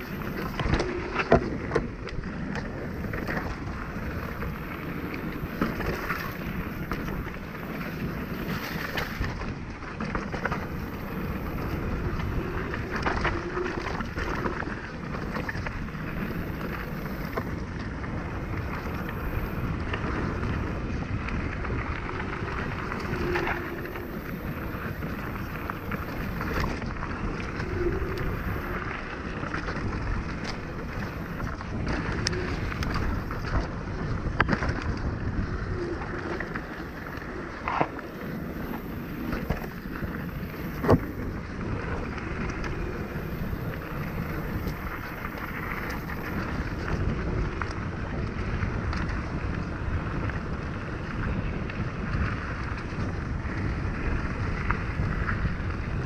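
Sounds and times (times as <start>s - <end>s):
bike knocking and rattling: 0.0s - 56.0s
tyres rolling over dirt and stones: 0.0s - 56.0s
wind rumbling on microphone: 0.0s - 56.0s.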